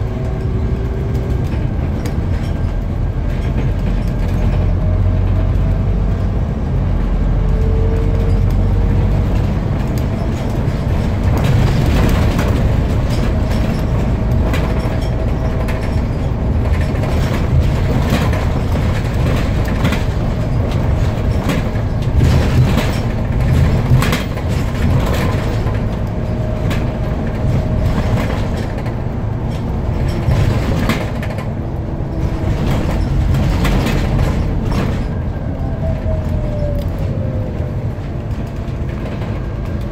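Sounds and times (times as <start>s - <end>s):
bus diesel engine running: 0.0s - 39.9s
rattles and knocks from bus body: 0.0s - 39.9s
road noise: 0.0s - 39.9s.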